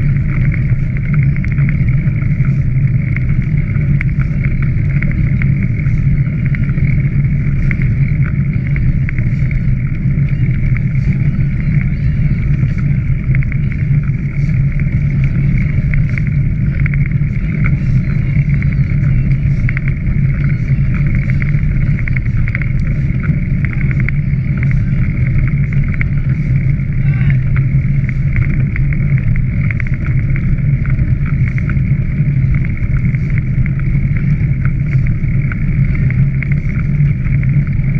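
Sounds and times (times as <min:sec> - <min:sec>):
faint rattles and clicks: 0:00.0 - 0:37.9
wind on microphone: 0:00.0 - 0:37.9.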